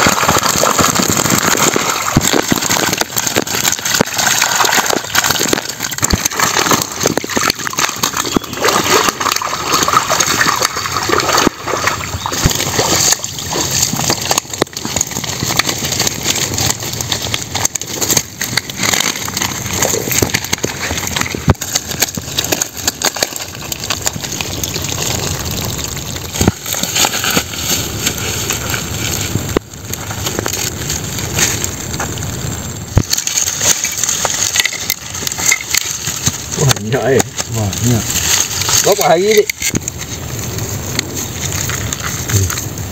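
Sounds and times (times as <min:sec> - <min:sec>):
water splashing and sloshing: 0:00.0 - 0:40.2.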